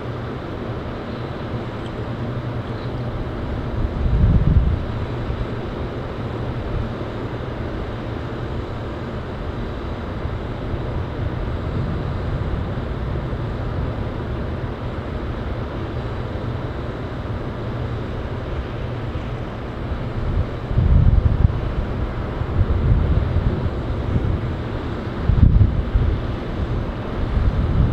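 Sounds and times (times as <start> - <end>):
wind buffeting microphone: 0.8 - 27.9.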